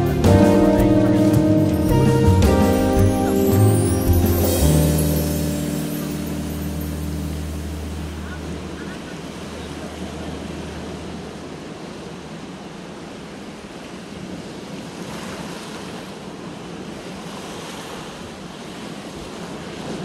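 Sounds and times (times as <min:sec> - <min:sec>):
surf waves washing on beach: 0:00.0 - 0:20.0.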